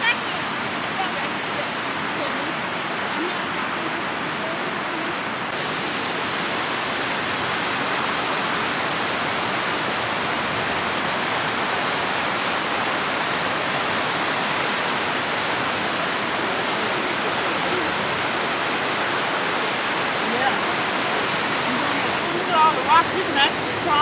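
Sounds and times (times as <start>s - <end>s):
white water rushing: 0.0s - 24.0s.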